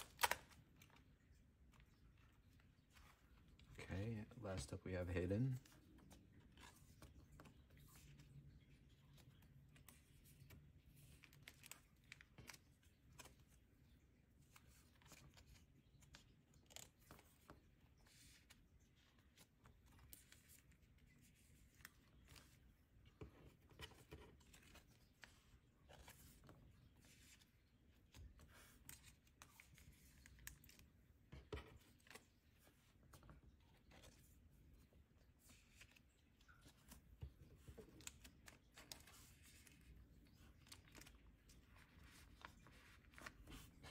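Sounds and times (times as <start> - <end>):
plastic sleeves rustling: 0.0 - 43.9.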